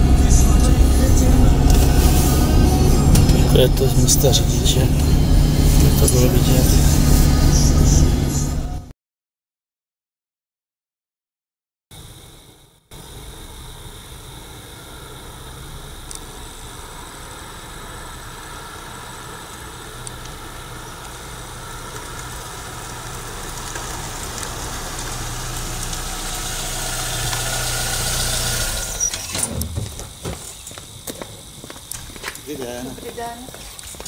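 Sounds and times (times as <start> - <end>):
car engine humming: 0.0 - 8.9, 12.9 - 33.4.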